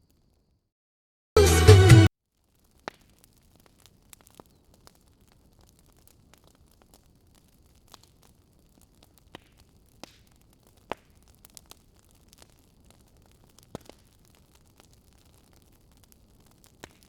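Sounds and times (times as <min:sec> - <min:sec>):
wood fire crackling and popping: 0:02.2 - 0:17.0.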